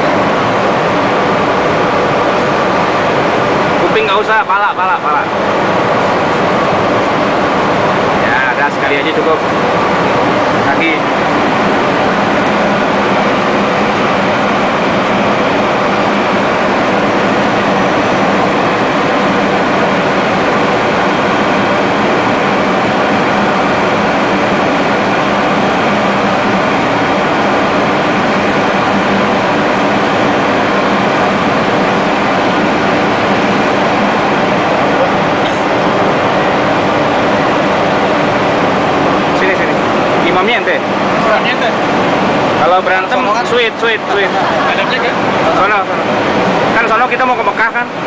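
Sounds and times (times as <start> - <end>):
airliner cabin engine and airflow rush: 0.0 - 48.0
faint constant hum: 0.0 - 48.0.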